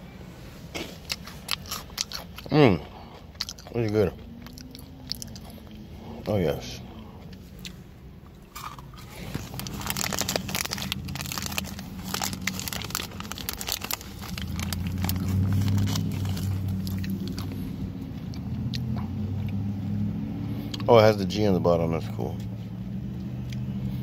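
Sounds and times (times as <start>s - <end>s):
steady low hum: 0.0s - 24.0s
crunching and chewing chocolate: 0.8s - 19.7s, 23.1s - 24.0s.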